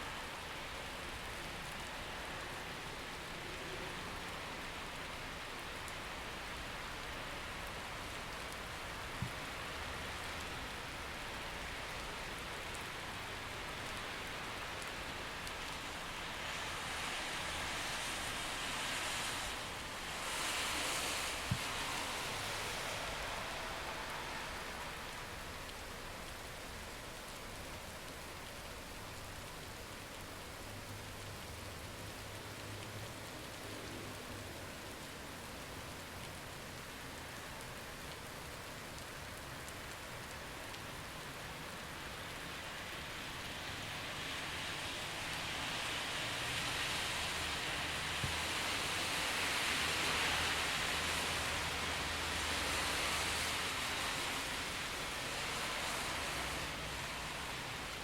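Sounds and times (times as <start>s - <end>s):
car tyres hissing on wet road: 0.0s - 29.4s, 30.2s - 58.0s
steady rain: 0.0s - 58.0s.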